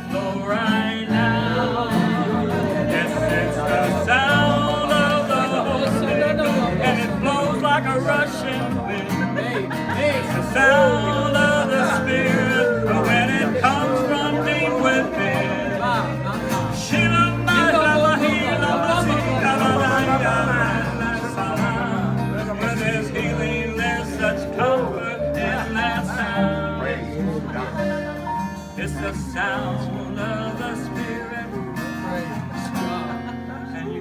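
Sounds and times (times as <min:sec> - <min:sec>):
man singing gospel song: 0:00.0 - 0:28.1, 0:28.7 - 0:32.2.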